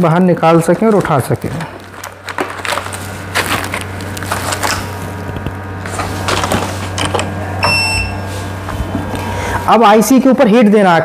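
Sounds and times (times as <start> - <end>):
hot-air station hum and hiss: 0.0 - 11.0.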